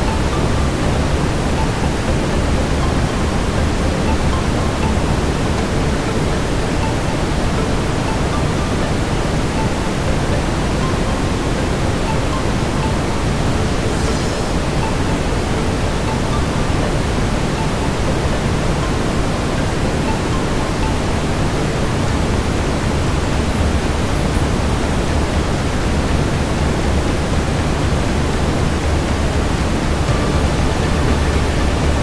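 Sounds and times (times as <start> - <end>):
brown noise hiss: 0.0 - 32.0.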